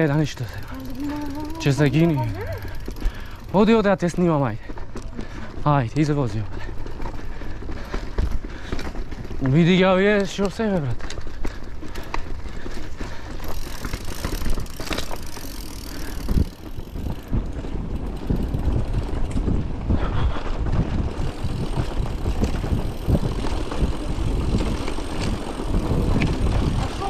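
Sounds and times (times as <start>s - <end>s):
bicycle rattling over stones: 0.0s - 27.0s.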